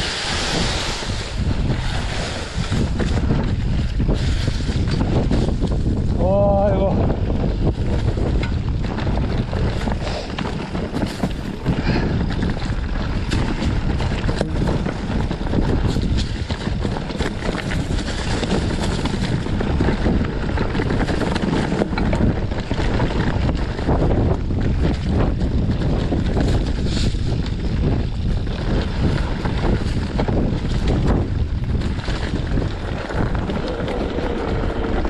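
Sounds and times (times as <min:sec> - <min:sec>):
bike rattles and knocks: 0:00.0 - 0:35.0
wind over microphone: 0:00.0 - 0:35.0.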